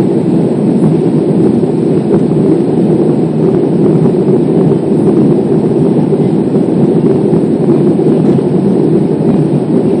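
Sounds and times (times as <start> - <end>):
jet engines rumbling: 0.0 - 10.0
rushing air: 0.0 - 10.0.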